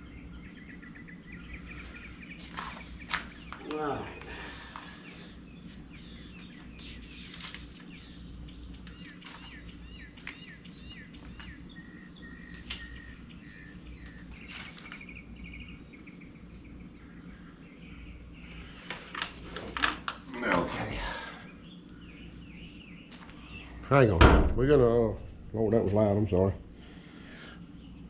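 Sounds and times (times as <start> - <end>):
birds chirping and trilling: 0.0 - 28.0
steady low hum: 0.0 - 28.0.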